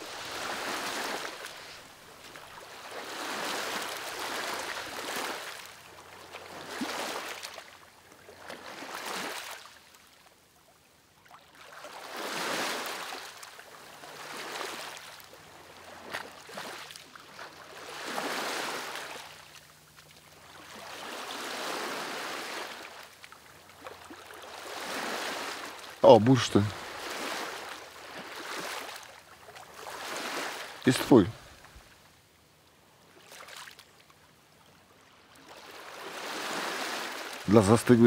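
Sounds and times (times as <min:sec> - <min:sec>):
small waves washing on shore: 0:00.0 - 0:38.0.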